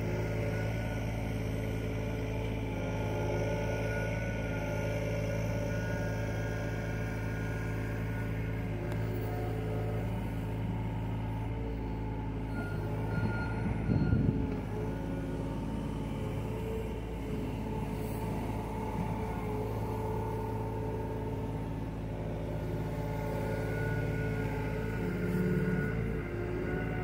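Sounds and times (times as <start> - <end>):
excavator diesel engine running: 0.0 - 27.0
hydraulics working: 0.0 - 27.0.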